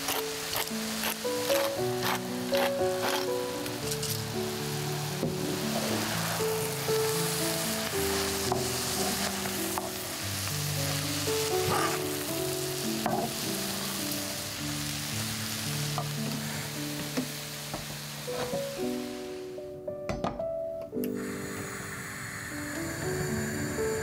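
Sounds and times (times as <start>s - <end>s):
cabbage sizzling in a frying pan: 0.0s - 19.8s, 21.1s - 24.0s
background music: 0.0s - 24.0s.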